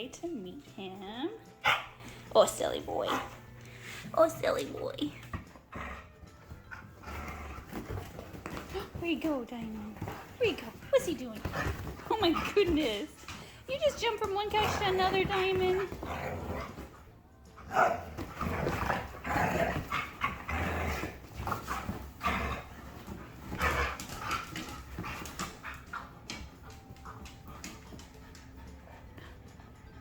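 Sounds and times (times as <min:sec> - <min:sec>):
dogs playing noises: 0:00.1 - 0:30.0.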